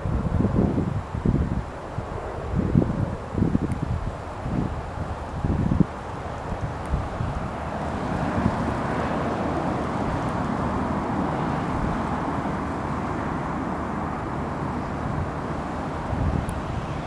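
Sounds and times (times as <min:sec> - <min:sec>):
jet engines running: 0:00.0 - 0:17.0
wind buffeting microphone: 0:00.0 - 0:17.0.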